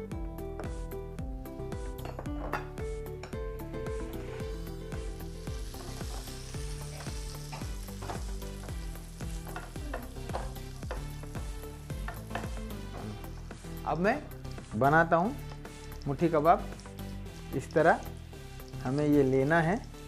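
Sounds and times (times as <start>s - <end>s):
background music with low beat: 0.0s - 20.0s
butter sizzling in frying pan: 3.6s - 20.0s.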